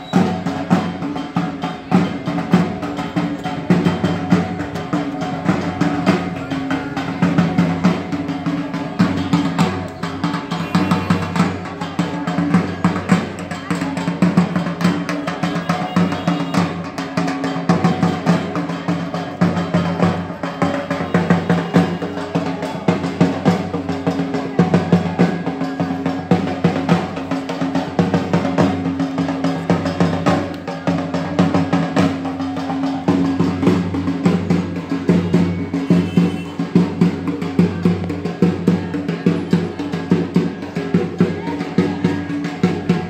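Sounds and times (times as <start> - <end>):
fast continuous drumming: 0.0 - 43.0.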